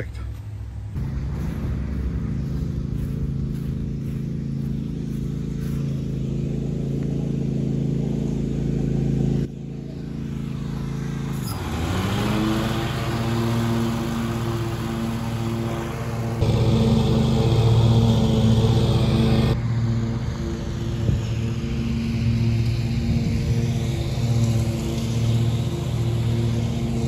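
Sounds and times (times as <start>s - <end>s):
riding mower engine running: 0.0s - 27.0s.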